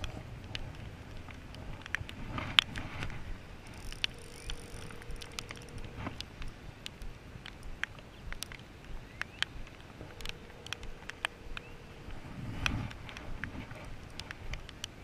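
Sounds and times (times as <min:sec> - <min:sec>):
sharp taps and ticks: 0:00.0 - 0:15.0.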